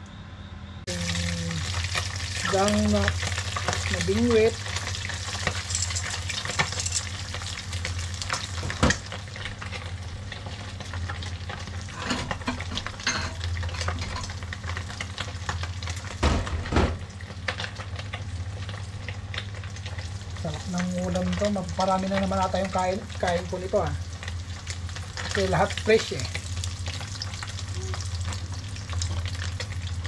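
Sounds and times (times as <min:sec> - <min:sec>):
fish sizzling in hot oil: 0:00.9 - 0:30.0.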